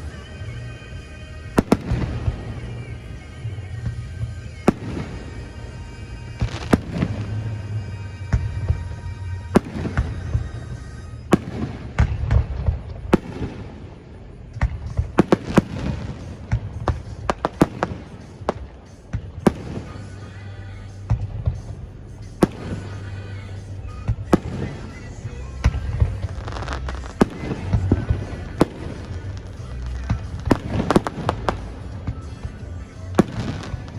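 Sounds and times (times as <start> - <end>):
background music: 0.0 - 33.9
fireworks bangs and crackling: 0.0 - 33.9.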